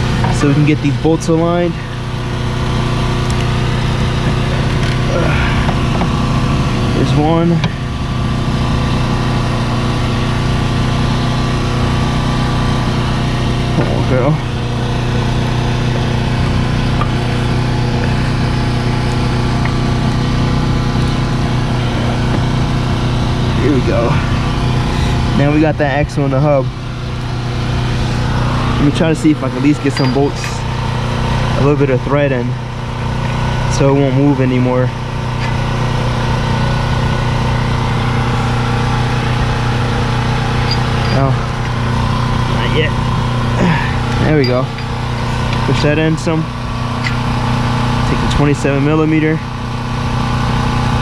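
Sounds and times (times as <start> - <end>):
low engine-like hum: 0.0 - 51.0.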